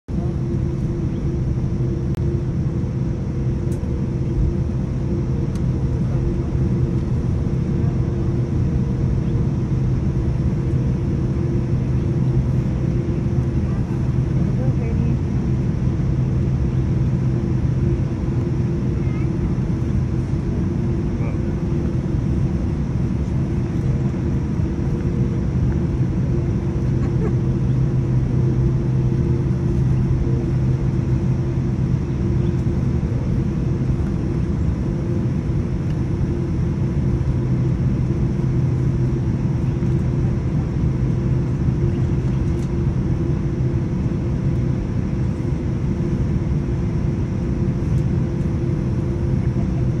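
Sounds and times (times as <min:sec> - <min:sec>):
jet airliner cabin rumble: 0:00.1 - 0:50.0.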